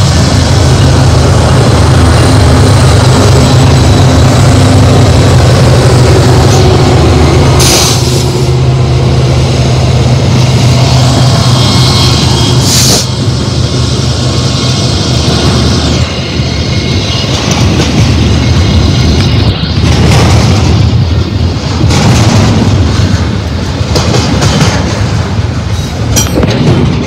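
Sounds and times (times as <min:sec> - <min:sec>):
locomotive engine drone: 0:00.0 - 0:27.0
wheel and rail noise: 0:00.0 - 0:27.0.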